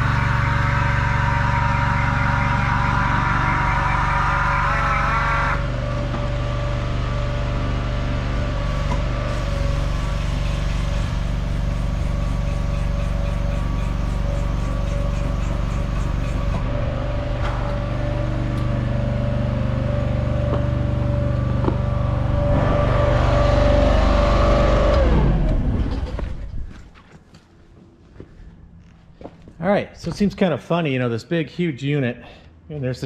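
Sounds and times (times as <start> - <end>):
hydraulic crane power unit whine: 0.0 - 29.4.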